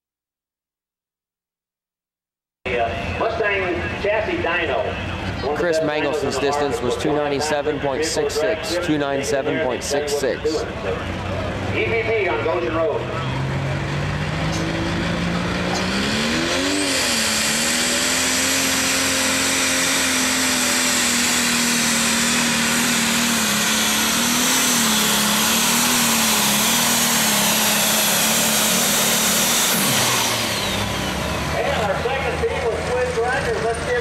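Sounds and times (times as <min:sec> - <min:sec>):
diesel tractor engine revving: 0:02.7 - 0:34.0
high turbo whine: 0:02.7 - 0:34.0.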